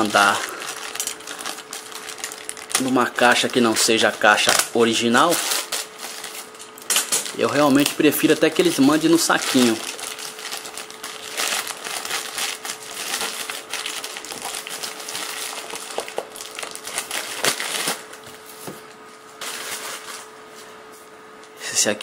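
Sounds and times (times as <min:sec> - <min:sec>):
plastic bag rustling and crinkling: 0:00.0 - 0:18.6, 0:19.2 - 0:20.6.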